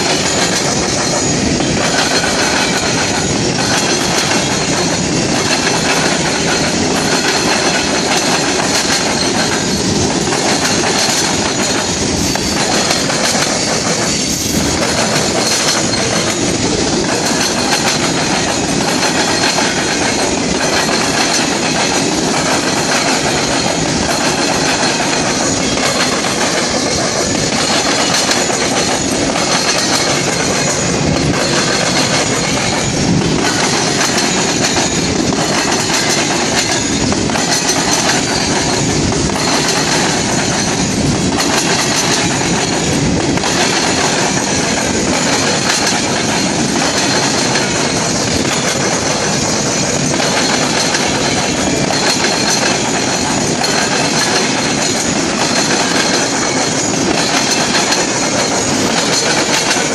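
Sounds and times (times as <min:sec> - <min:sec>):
freight train wheels rumbling: 0:00.0 - 0:59.9
wheels clicking over rail joints: 0:00.0 - 0:59.9.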